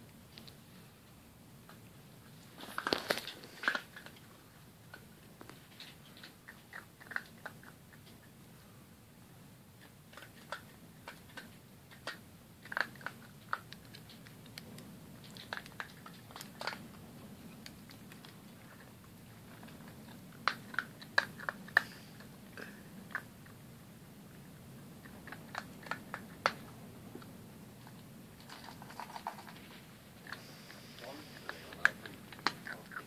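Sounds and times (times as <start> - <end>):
puppy crunching food: 0.0 - 8.4, 9.7 - 33.0.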